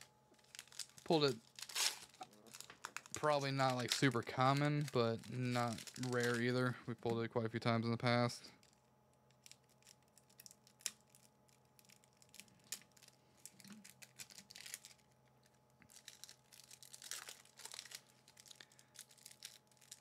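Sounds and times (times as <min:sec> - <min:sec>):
plastic wrapper crinkling: 0:00.0 - 0:07.2, 0:08.6 - 0:20.0.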